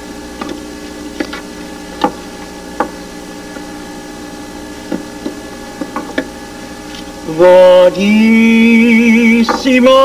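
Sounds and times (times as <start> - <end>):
tape hum and hiss: 0.0 - 10.0.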